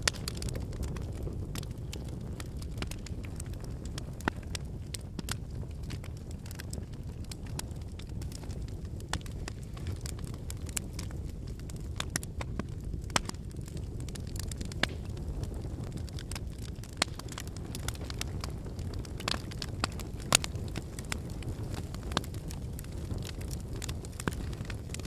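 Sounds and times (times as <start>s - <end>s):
firewood crackling and popping: 0.0s - 25.0s
low rush of flames: 0.0s - 25.0s.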